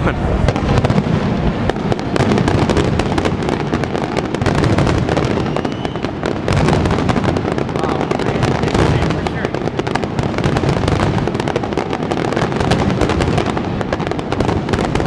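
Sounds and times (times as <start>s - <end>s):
fireworks crackling: 0.0s - 15.0s
fireworks shells bursting: 0.0s - 15.0s.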